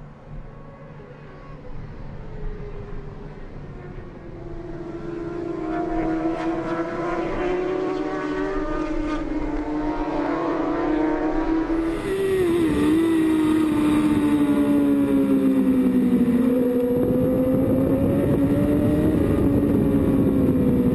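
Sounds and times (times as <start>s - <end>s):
motorcycle engines revving high: 4.0s - 20.9s.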